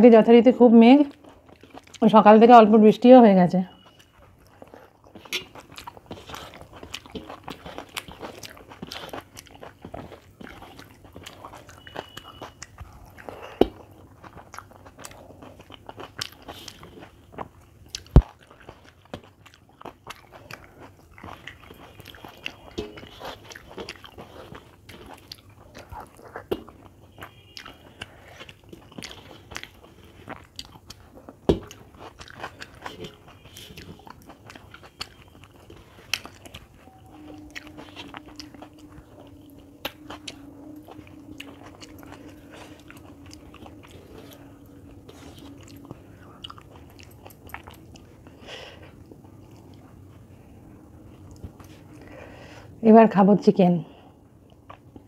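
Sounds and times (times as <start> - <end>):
person chewing: 1.1 - 2.1, 3.7 - 52.7, 54.0 - 55.0.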